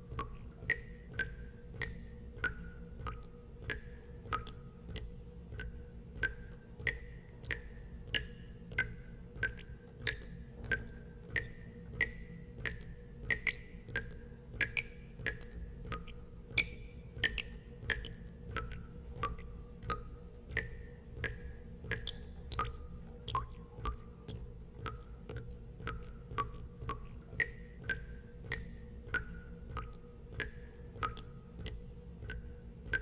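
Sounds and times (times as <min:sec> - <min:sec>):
steady low hum: 0:00.0 - 0:33.0
water drops plinking into water: 0:00.0 - 0:33.0.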